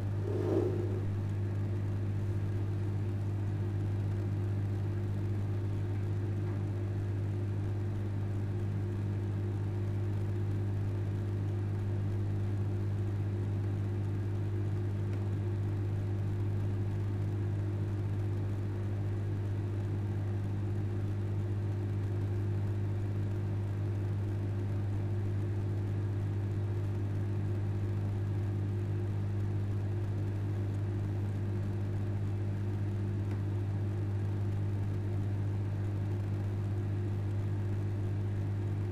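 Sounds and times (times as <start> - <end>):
microwave oven hum: 0.0 - 38.9.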